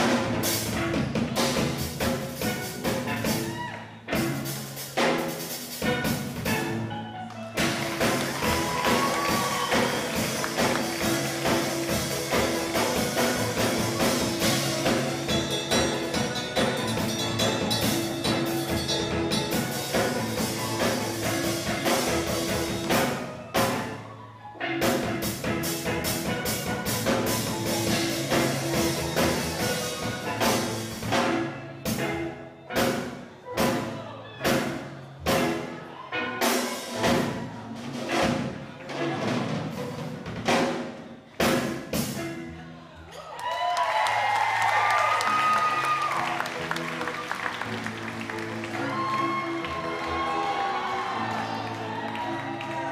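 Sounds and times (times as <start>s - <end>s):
steel pan band with drum kit: 0.0s - 52.9s.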